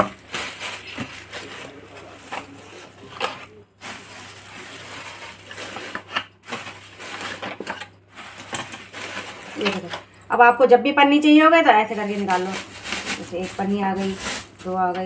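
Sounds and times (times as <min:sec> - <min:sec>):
plastic bags crinkling: 0:00.0 - 0:10.6, 0:11.8 - 0:15.0.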